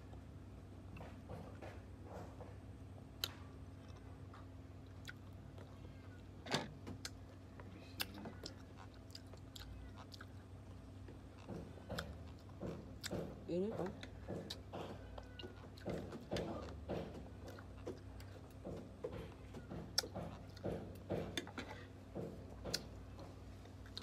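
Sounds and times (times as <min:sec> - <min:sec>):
person chewing crisp cucumber: 0:03.0 - 0:24.0.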